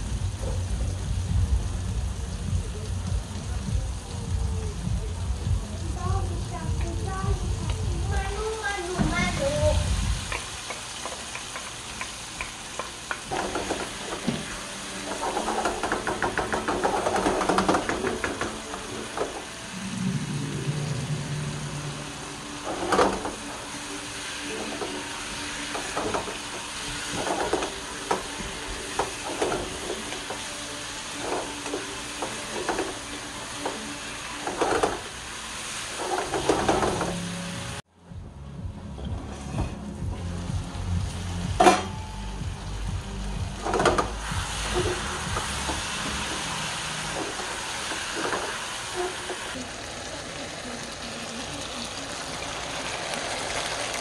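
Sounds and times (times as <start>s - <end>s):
chicken sizzling in a wok: 0.0s - 37.9s, 39.4s - 54.0s.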